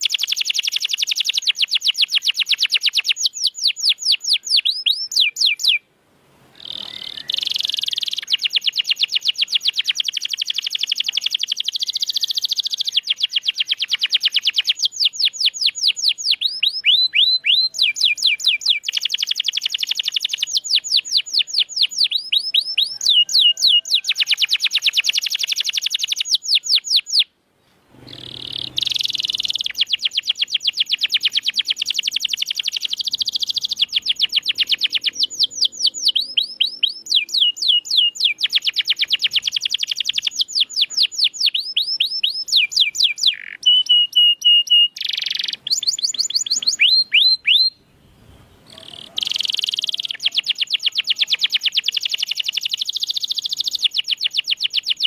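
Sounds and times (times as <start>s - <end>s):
canary singing: 0.0s - 5.8s, 6.6s - 27.3s, 28.0s - 55.0s.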